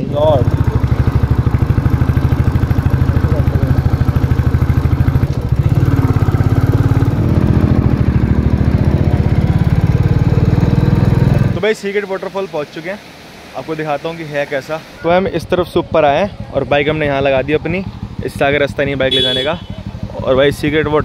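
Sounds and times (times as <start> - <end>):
motorcycle engine running: 0.0 - 12.4, 15.0 - 21.0.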